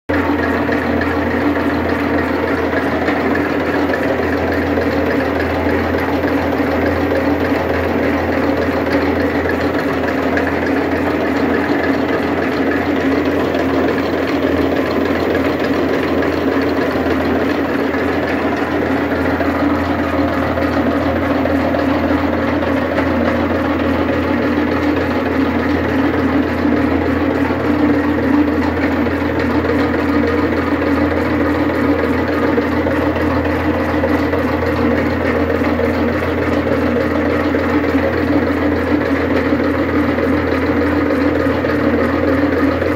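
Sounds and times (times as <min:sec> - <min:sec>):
machine mechanical drone: 0:00.1 - 0:42.9.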